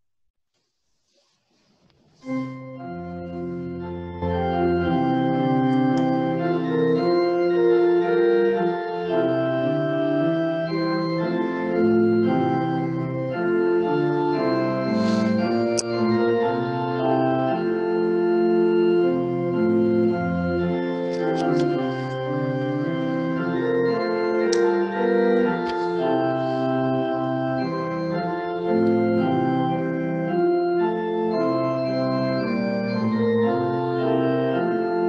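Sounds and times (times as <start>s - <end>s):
organ playing slow chords: 2.2s - 35.0s.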